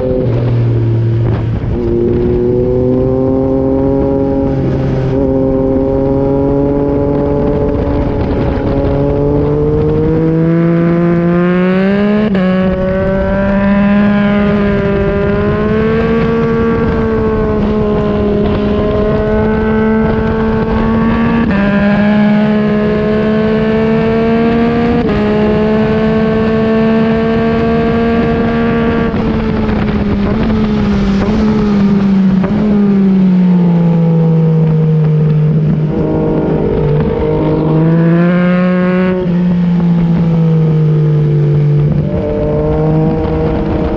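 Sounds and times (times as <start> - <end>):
motorcycle engine revving: 0.0 - 43.9
wind rushing: 0.0 - 43.9.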